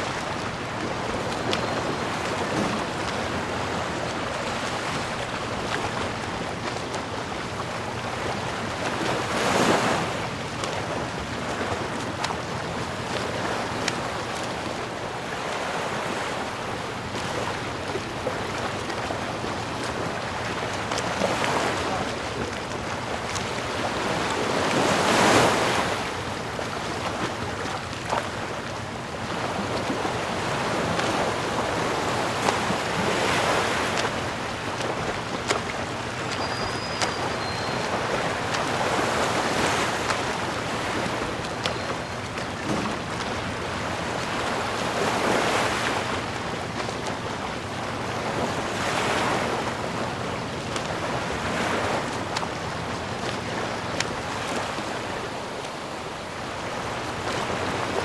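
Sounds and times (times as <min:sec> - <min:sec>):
ocean waves washing: 0:00.0 - 0:58.0.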